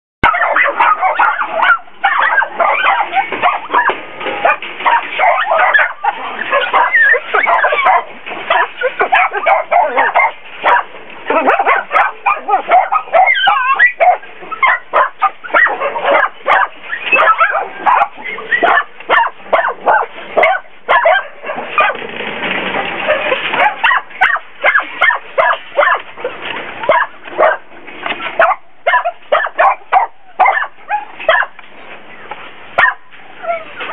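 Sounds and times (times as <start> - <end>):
many dogs barking: 0.2 - 22.1, 23.0 - 27.7, 28.4 - 31.6, 32.8 - 33.9.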